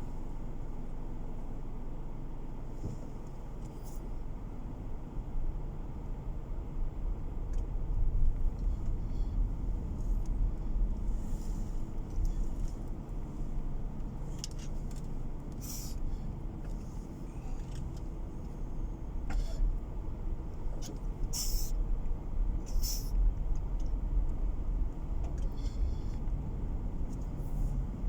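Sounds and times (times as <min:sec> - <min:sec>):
road and engine rumble in car: 0:00.0 - 0:28.0.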